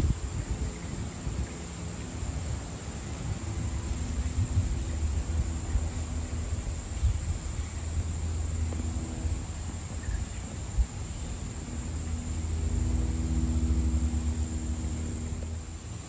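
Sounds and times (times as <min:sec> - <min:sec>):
wind buffeting microphone: 0:00.0 - 0:16.0
wind gusting through trees: 0:00.0 - 0:16.0.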